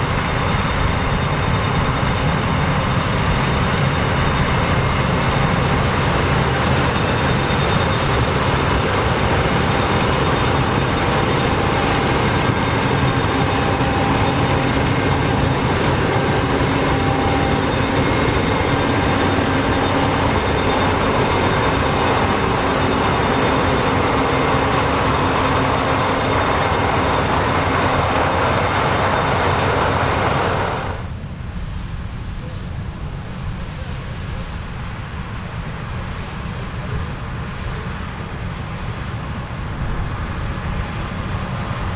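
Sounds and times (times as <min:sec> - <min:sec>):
combine harvester running: 0:00.0 - 0:32.5, 0:33.1 - 0:41.9
faint machinery whines: 0:00.0 - 0:41.9.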